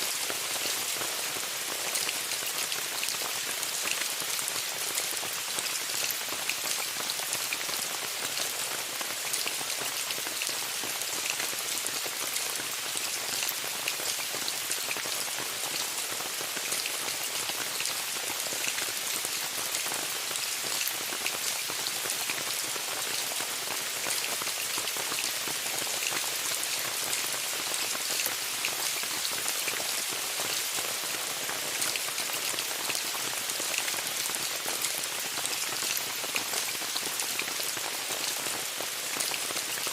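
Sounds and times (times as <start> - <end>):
rain pattering on tent fabric: 0.0 - 39.9.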